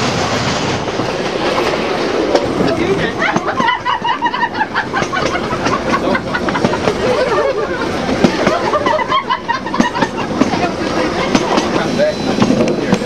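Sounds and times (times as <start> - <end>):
train carriage rumble and rattle: 0.0 - 13.0
wheels clicking over rail joints: 0.6 - 13.0.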